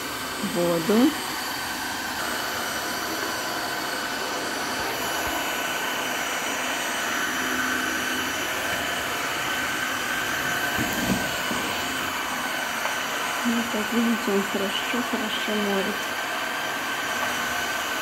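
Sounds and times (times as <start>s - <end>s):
floor washer motor hum and whine: 0.0s - 18.0s.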